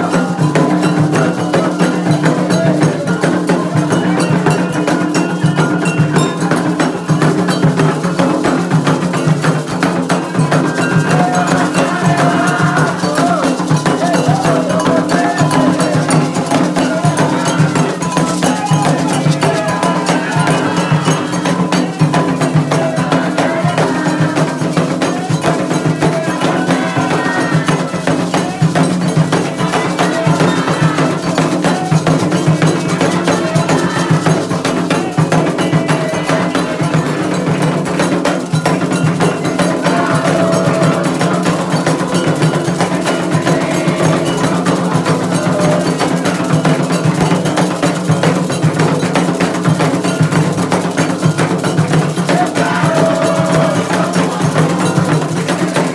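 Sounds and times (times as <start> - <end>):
bell beating rhythm: 0.0 - 55.9
hand drums beating: 0.0 - 55.9
voices singing: 0.0 - 55.9.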